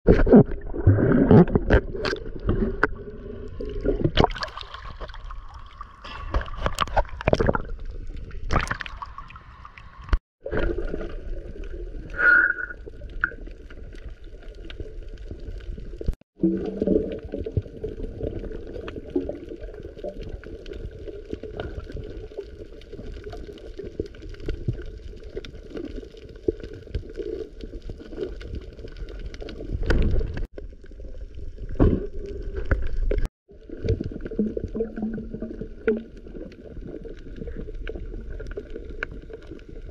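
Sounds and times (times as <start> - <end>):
water gurgling and sloshing: 0.1 - 39.9.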